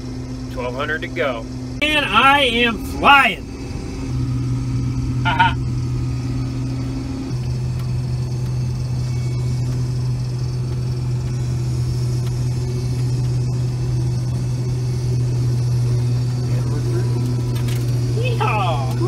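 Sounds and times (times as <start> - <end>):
combine harvester low drone: 0.0 - 19.0.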